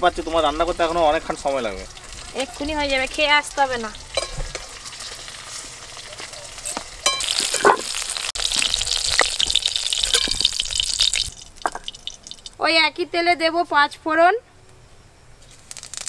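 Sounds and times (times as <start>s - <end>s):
oil sizzling in a wok: 0.0s - 12.6s, 15.7s - 16.0s.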